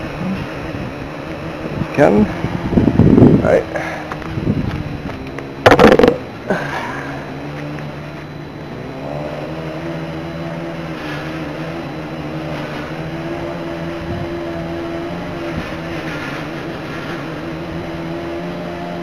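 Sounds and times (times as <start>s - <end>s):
quadcopter motors humming: 0.0s - 19.0s.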